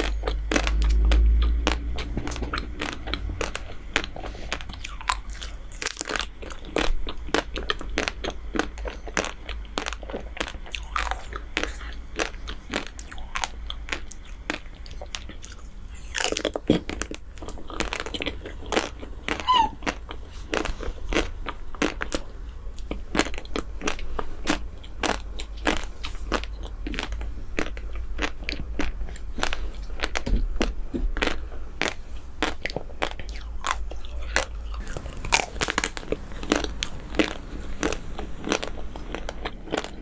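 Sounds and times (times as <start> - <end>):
chocolate shell crunching: 0.0 - 40.0
wet chewing: 0.0 - 40.0.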